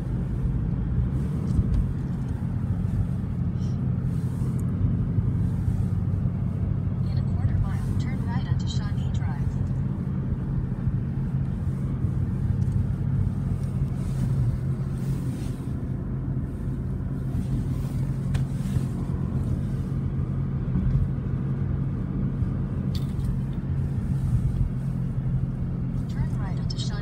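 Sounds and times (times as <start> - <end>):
car engine and tyres hum: 0.0 - 27.0.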